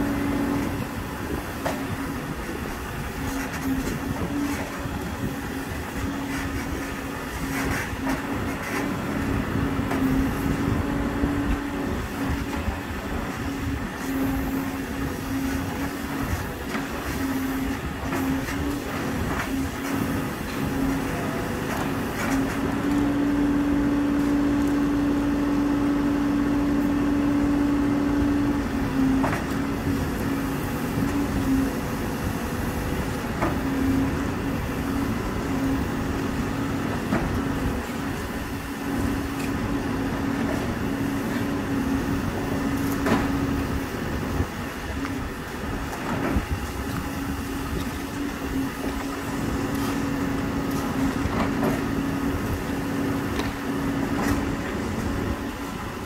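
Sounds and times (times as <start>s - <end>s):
backhoe engine and hydraulics drone: 0.0s - 56.0s.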